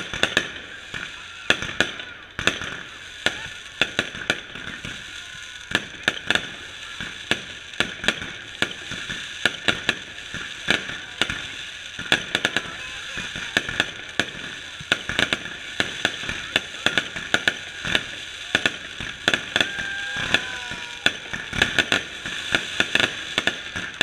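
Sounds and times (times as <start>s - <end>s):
fireworks bangs and pops: 0.0s - 24.0s.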